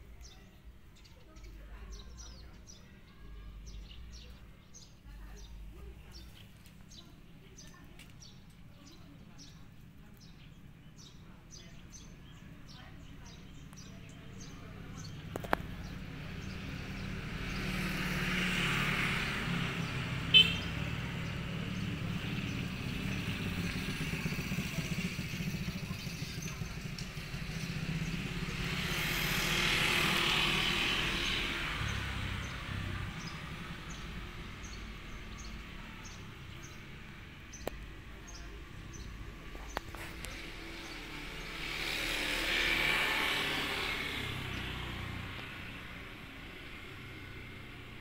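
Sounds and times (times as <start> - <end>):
vehicles passing by: 0.0 - 48.0.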